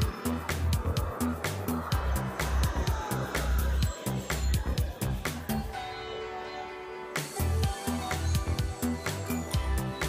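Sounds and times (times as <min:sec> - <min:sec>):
music with quick beat and heavy bass: 0:00.0 - 0:05.7, 0:07.2 - 0:10.0.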